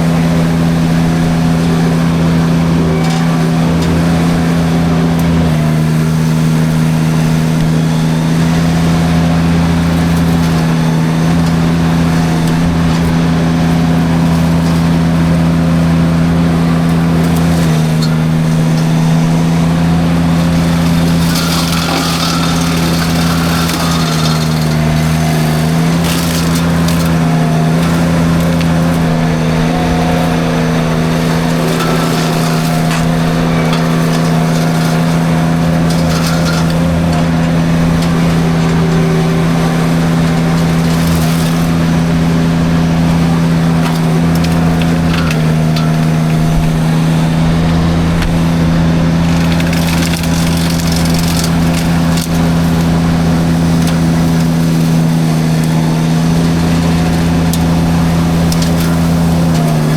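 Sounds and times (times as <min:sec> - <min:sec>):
mulcher engine humming: 0:00.0 - 0:59.9
wood crackling and splintering: 0:00.0 - 0:59.9.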